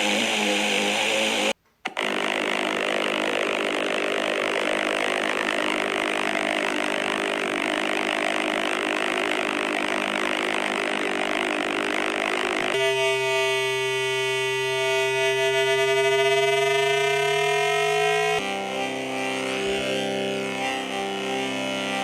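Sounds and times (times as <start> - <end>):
hissing synthetic drone: 0.0 - 22.0.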